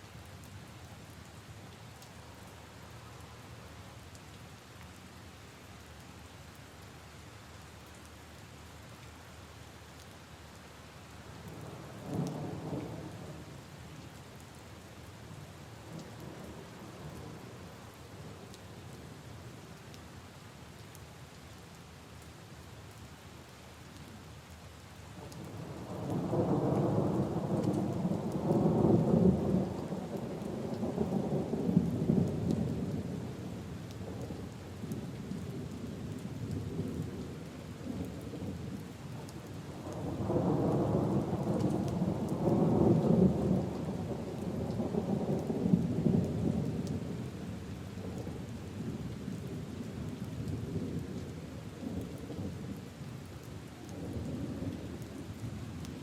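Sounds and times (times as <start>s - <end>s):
rain falling on puddles and leaves: 0.0s - 56.0s.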